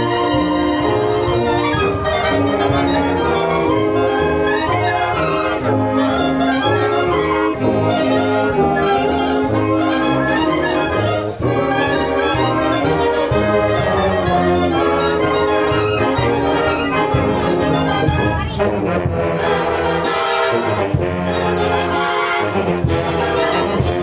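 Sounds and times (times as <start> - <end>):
brass band playing: 0.0 - 24.0.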